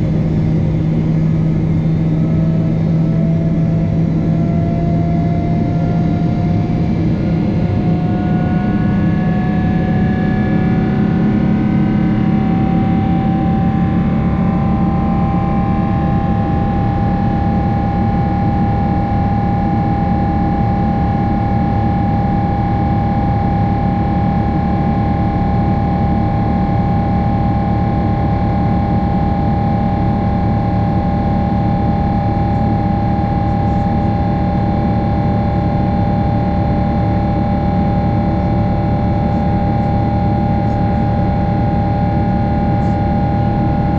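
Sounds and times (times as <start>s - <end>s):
jet engines heard inside cabin: 0.0s - 43.9s.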